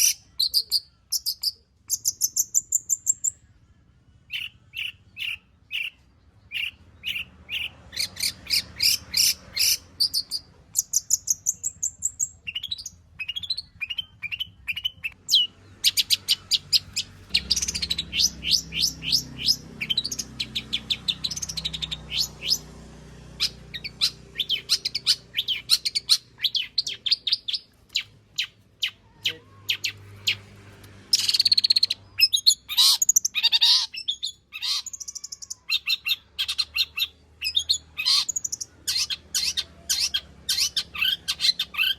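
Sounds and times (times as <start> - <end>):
shrike singing varied song: 0.0 - 41.9.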